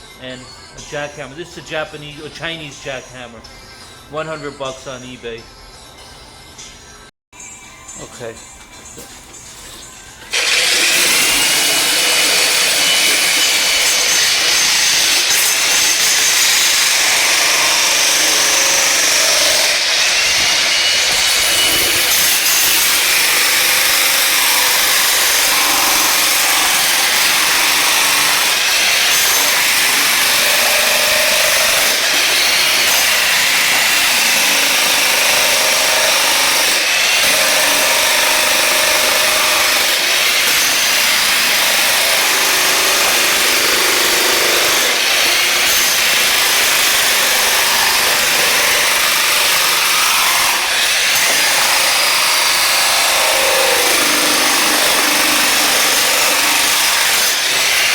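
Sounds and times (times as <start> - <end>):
electric jackhammer breaking flooring: 10.3 - 57.9.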